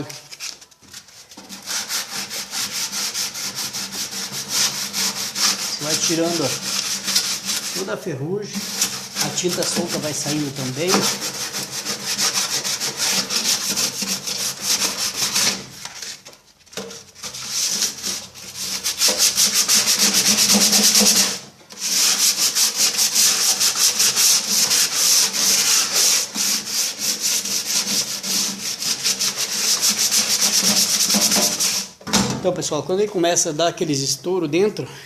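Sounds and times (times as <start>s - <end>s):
sandpaper scraping on metal: 0.0s - 16.2s, 17.0s - 32.0s.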